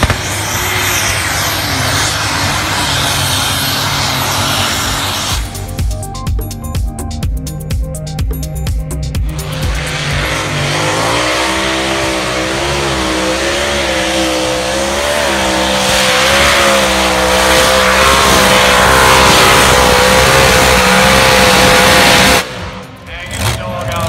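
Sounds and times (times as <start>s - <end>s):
engine at full throttle: 0.0s - 24.0s.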